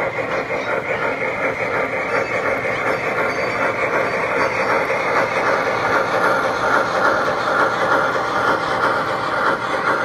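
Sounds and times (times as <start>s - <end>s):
model train rolling on track: 0.0s - 10.0s.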